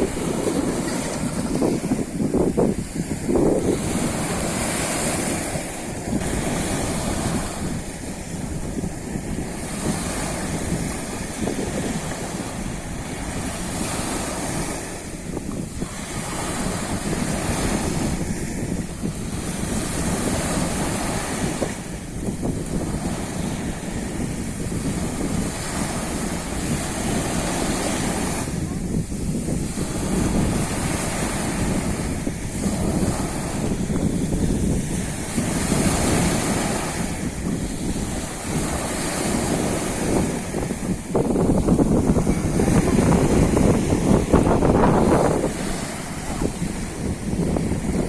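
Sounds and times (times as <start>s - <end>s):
sea waves washing onto shore: 0.0s - 48.0s
wind on microphone: 0.0s - 48.0s.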